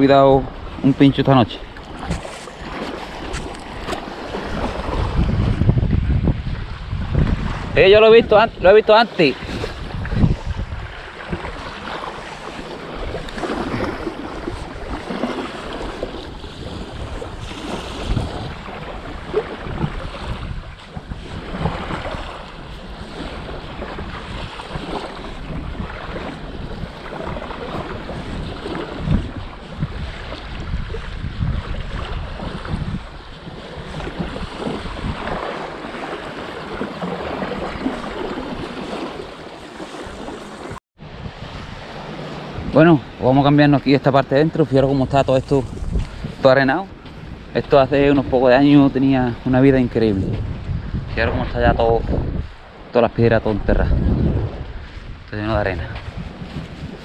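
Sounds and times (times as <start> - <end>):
small waves washing on sand: 0.0 - 57.0
wind buffeting microphone: 0.0 - 57.0.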